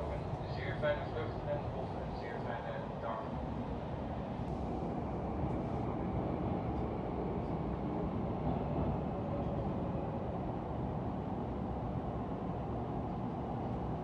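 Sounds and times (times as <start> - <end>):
train rumble inside passenger car: 0.0 - 14.0.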